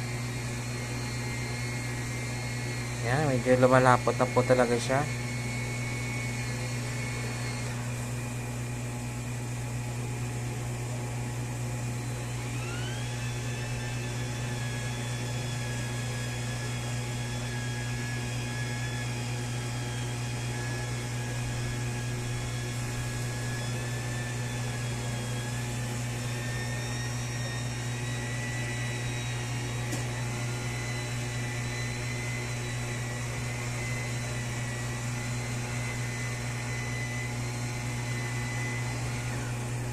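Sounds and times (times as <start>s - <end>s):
motor whine: 0.0s - 39.9s
washing machine motor humming: 0.0s - 39.9s.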